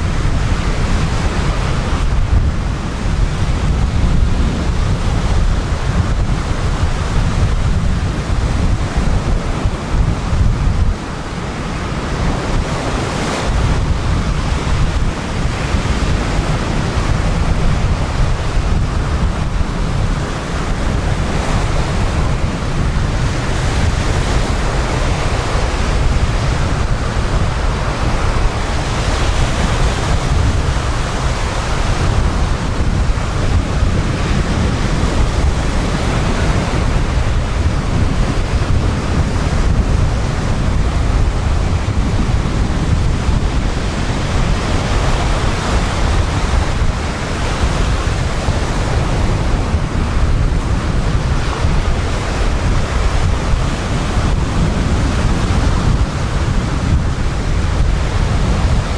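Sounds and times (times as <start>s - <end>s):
waves breaking on beach: 0.0s - 58.9s
wind buffeting microphone: 0.0s - 58.9s.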